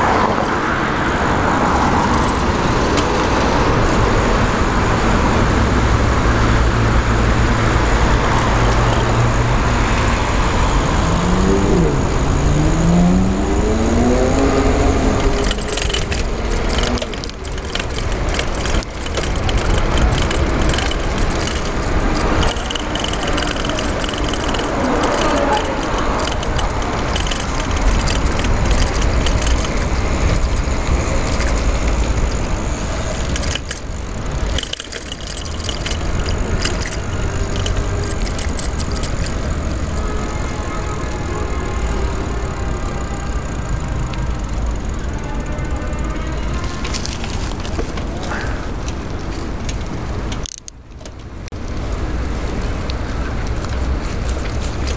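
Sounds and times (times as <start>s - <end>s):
wind and tyres rumble: 0.0s - 54.9s
bicycle chain lock rattling: 0.1s - 54.9s.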